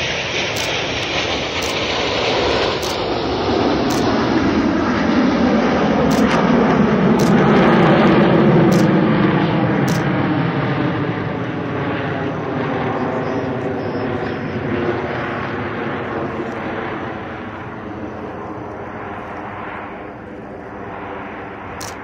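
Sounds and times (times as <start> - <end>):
jet aircraft droning overhead: 0.0 - 22.0.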